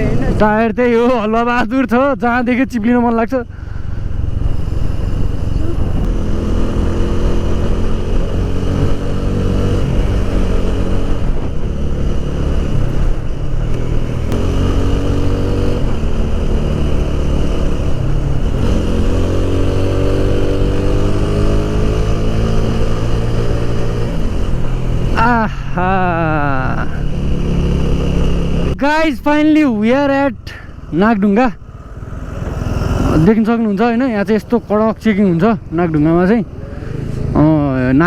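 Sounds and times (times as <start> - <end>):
motorcycle engine accelerating: 2.9 - 28.8, 29.7 - 38.0.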